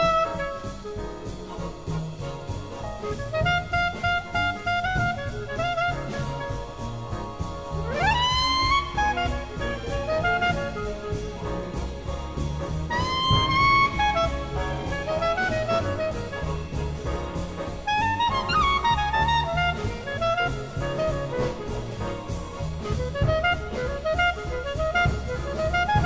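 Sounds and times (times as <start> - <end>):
jazz music with horns: 0.0 - 26.0.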